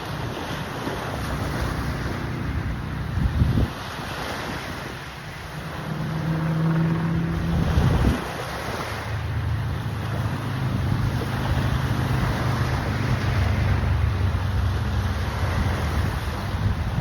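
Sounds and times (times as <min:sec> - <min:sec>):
surf hissing: 0:00.0 - 0:17.0
wind buffeting microphone: 0:00.0 - 0:17.0.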